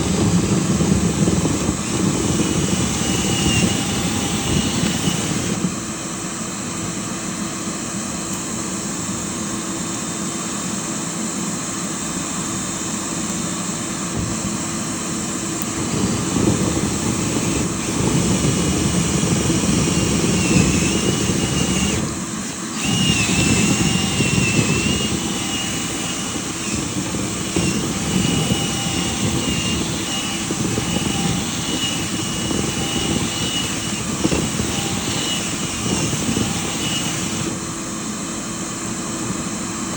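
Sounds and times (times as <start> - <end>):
vent cleaning motor whining: 0.0 - 39.9.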